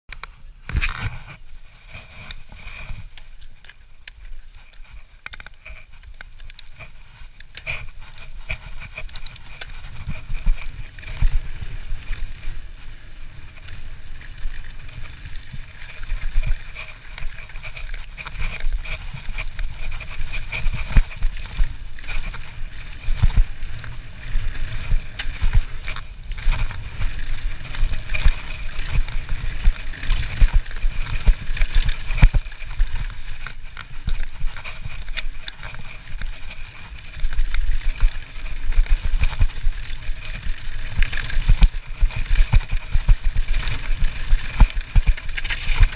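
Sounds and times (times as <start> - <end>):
bike tyre noise on dirt: 0.1 - 45.9
bike rattling and knocking: 0.7 - 45.9.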